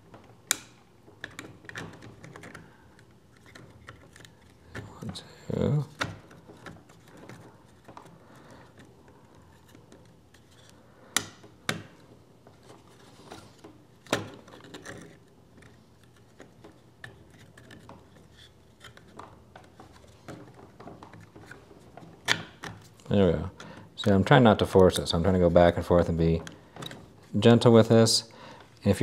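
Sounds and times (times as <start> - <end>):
plastic rubbing and handling: 1.0 - 10.9, 11.5 - 28.0.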